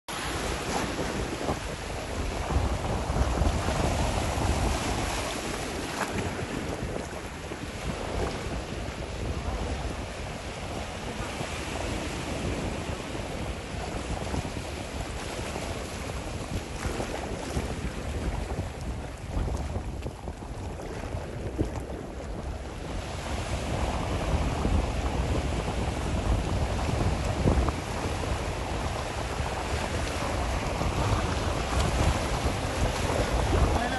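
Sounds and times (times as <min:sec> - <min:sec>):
seawater lapping and sloshing: 0:00.1 - 0:33.9
wind buffeting microphone: 0:00.1 - 0:33.9.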